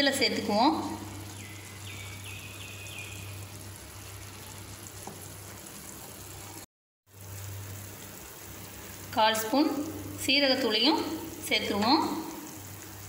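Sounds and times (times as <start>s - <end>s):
soup boiling: 0.7s - 13.0s.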